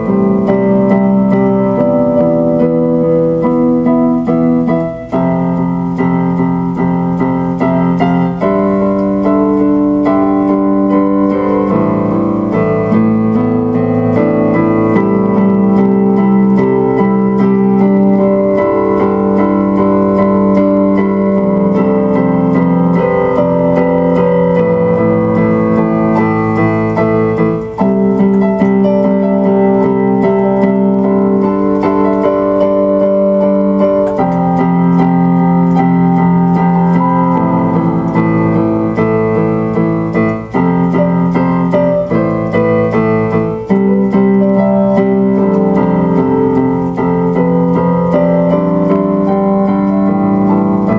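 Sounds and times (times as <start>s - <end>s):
electronic keyboard chords: 0.0s - 50.9s.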